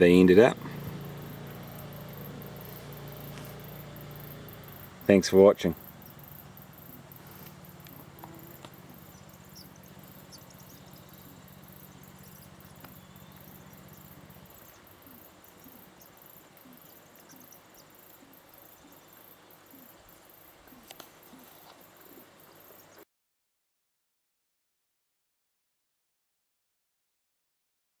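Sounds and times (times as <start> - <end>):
crickets chirping: 0.0 - 23.0
low steady hum: 0.0 - 23.0.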